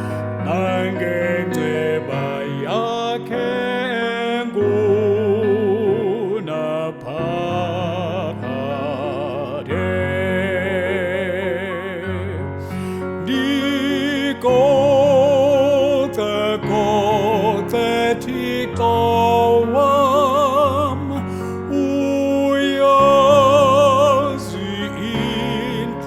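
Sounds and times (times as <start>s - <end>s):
choir singing held chords: 0.0s - 11.5s, 13.2s - 26.0s.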